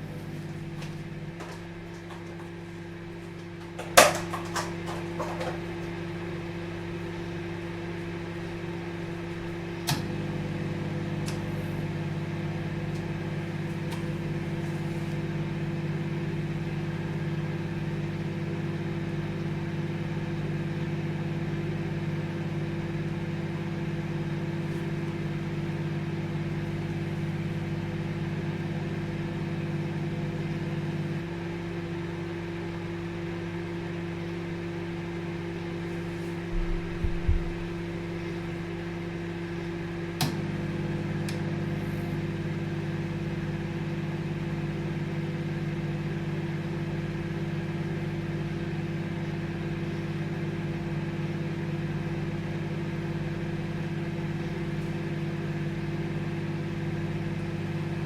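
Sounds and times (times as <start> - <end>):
microwave buzz: 0.0 - 58.0
microwave oven humming: 0.0 - 58.0.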